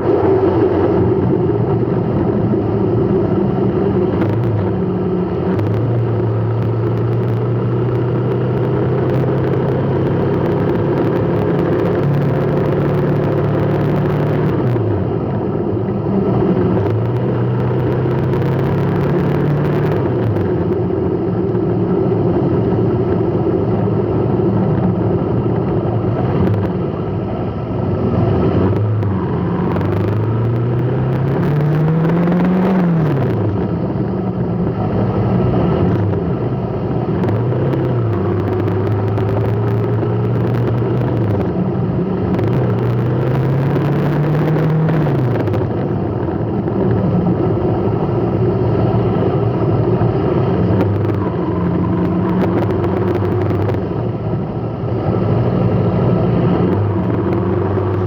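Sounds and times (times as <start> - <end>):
road noise rumble: 0.0 - 58.0
vehicle engine revving: 0.0 - 58.0.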